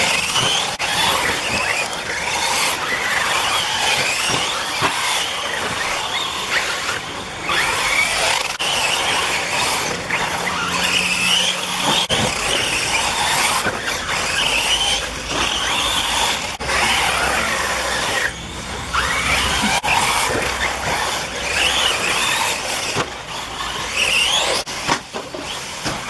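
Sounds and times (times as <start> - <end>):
rc buggy motors whining: 0.0 - 26.0
tyres on track: 0.0 - 26.0.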